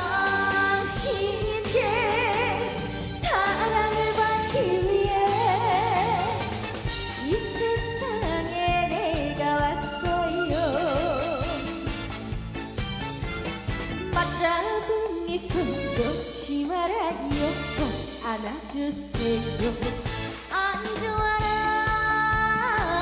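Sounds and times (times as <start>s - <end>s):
woman singing into microphone: 0.0s - 6.4s, 7.2s - 11.7s, 14.2s - 23.0s
backing band track: 0.0s - 23.0s.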